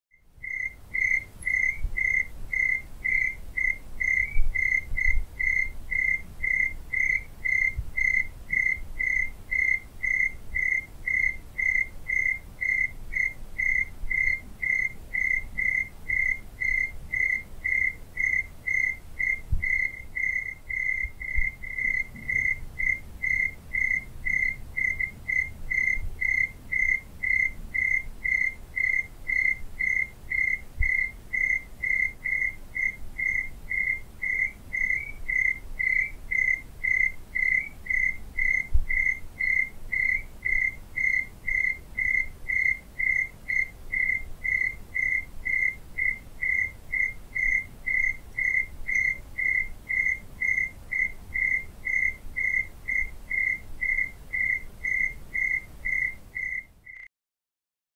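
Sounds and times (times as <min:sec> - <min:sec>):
cricket chirping: 0:00.2 - 0:57.1.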